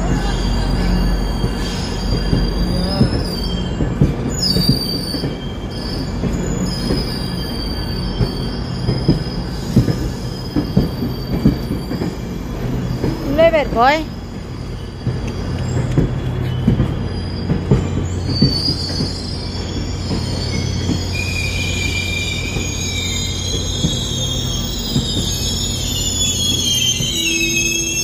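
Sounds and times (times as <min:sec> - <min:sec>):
high wavering wheel squeal: 0:00.0 - 0:28.0
train low rumble: 0:00.0 - 0:28.0.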